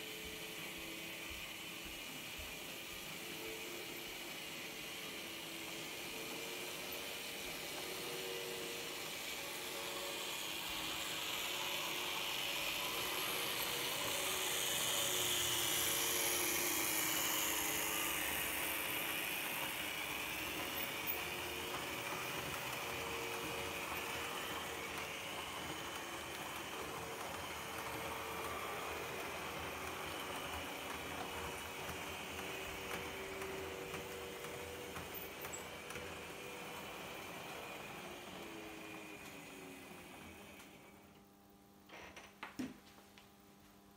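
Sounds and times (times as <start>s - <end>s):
model train motor whirring: 0.0s - 40.9s.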